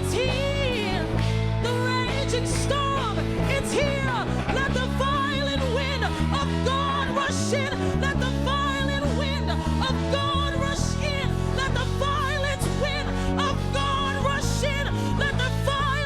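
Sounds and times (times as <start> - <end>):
low bass line: 0.0 - 16.0
person singing: 0.0 - 16.0.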